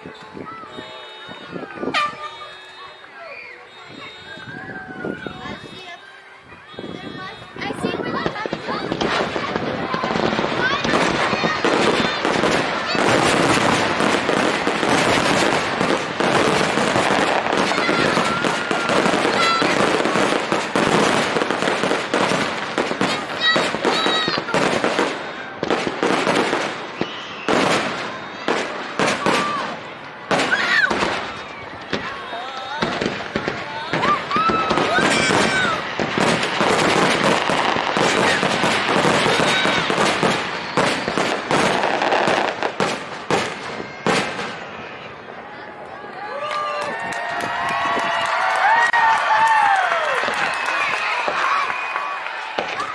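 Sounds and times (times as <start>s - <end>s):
high firework whistle: 0.0s - 22.4s, 23.0s - 45.1s
fireworks booming and crackling: 0.0s - 52.9s.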